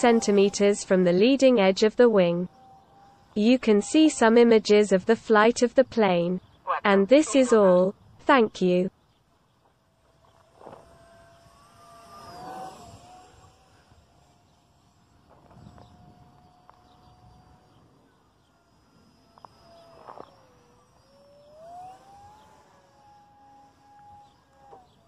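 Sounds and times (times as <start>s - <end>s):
model plane motor whine: 0.0s - 25.0s.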